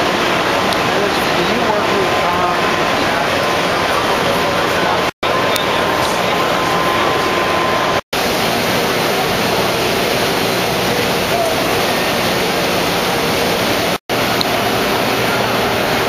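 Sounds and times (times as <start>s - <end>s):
crowd babble: 0.0s - 16.0s
machinery noise: 0.0s - 16.0s.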